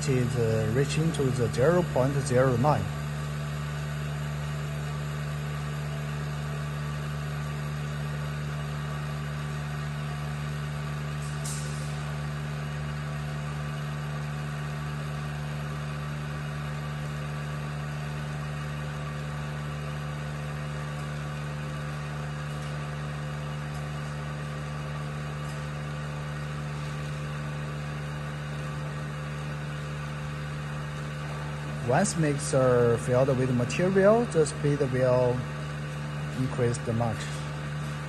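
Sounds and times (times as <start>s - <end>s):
vacuum pump humming: 0.0s - 38.0s.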